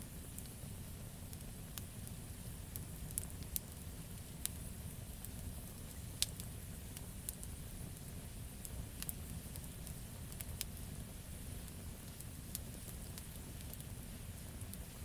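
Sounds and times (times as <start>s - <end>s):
campfire wood crackling: 0.0s - 15.0s
low rumble of burning fire: 0.0s - 15.0s.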